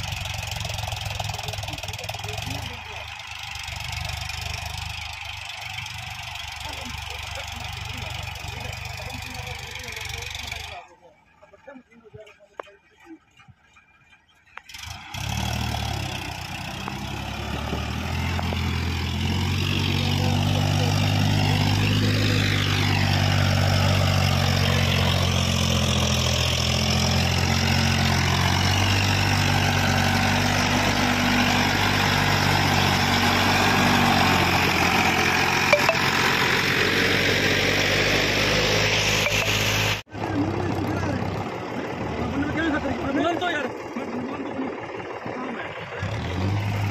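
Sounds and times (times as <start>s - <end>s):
tractor diesel engine labouring: 0.0s - 46.9s.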